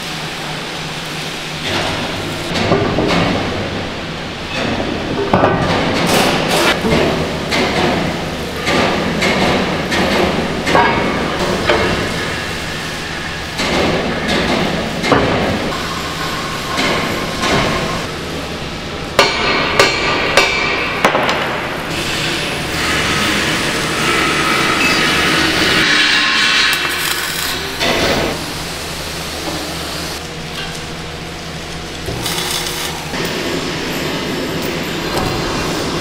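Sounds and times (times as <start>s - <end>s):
low workshop hum: 0.0s - 36.0s.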